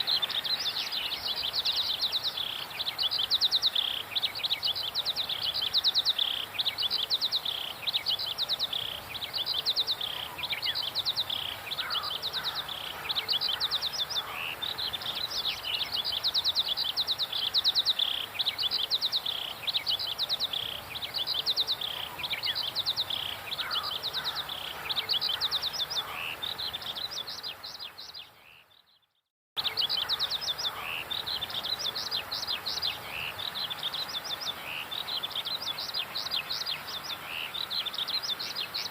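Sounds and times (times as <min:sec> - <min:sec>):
songbirds trilling: 0:00.0 - 0:38.9.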